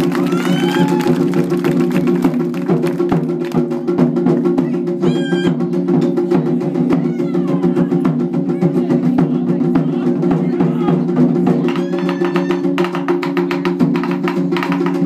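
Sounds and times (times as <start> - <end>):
taiko drums through loudspeakers: 0.0 - 15.0.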